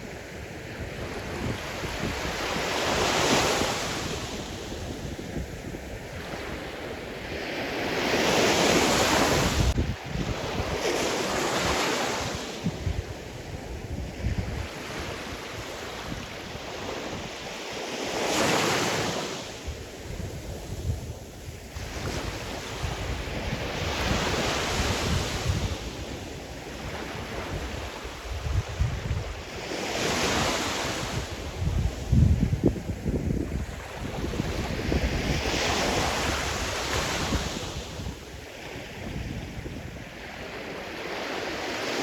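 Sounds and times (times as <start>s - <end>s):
waves breaking on shore: 0.0s - 42.0s
wind on microphone: 0.0s - 42.0s.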